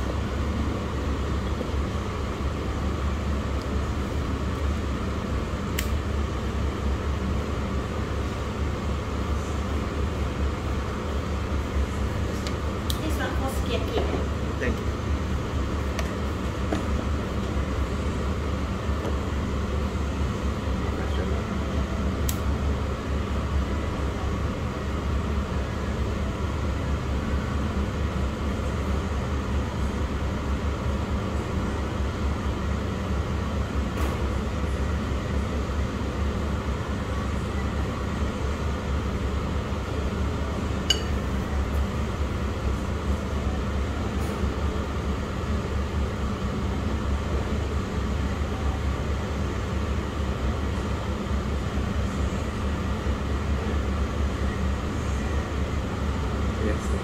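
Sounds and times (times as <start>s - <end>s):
low indoor hum and rumble: 0.0s - 57.0s.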